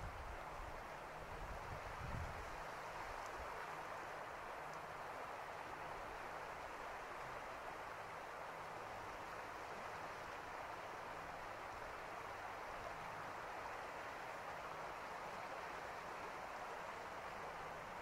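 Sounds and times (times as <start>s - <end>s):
shallow river water flowing: 0.0s - 18.0s.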